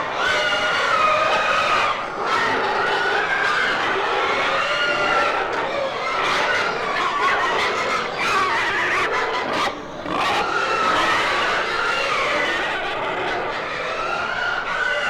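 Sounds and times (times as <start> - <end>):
pigs squealing: 0.0 - 15.0.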